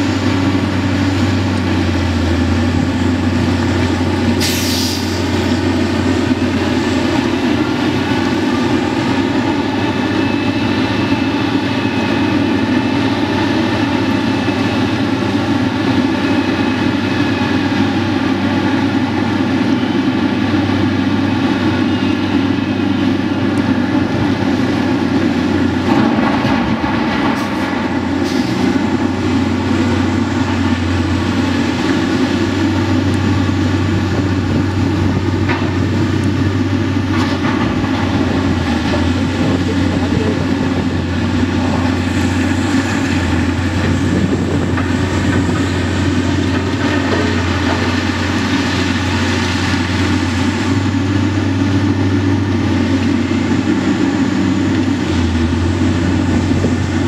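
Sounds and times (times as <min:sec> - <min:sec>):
heavy engines running: 0:00.0 - 0:57.0.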